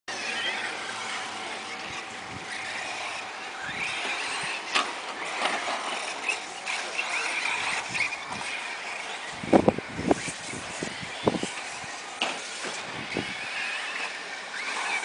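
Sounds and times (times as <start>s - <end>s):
toy truck motor whining: 0.1s - 15.0s.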